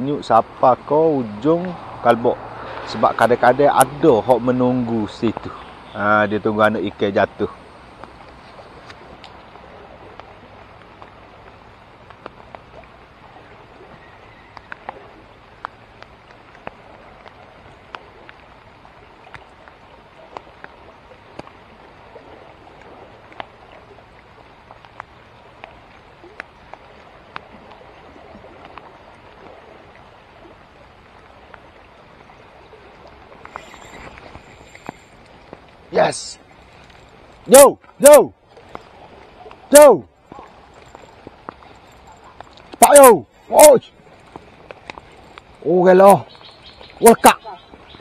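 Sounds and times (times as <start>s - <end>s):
rain falling on water: 0.0s - 48.0s.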